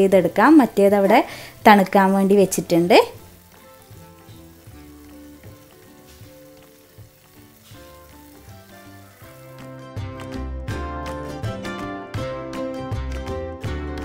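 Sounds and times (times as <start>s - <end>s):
dough balls frying in oil: 0.0s - 11.8s
quiet background music: 0.0s - 14.0s.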